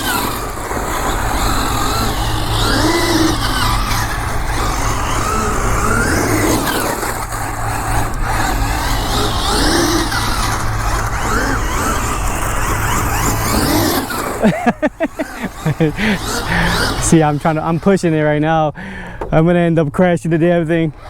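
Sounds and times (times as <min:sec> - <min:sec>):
drivetrain and tyre noise: 0:00.0 - 0:21.0
electric motor whining: 0:00.0 - 0:21.0.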